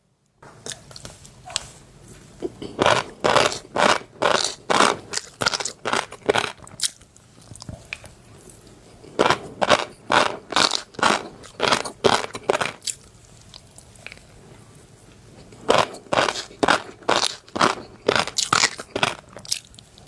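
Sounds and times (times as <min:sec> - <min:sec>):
crunchy chewing: 0:00.6 - 0:20.0.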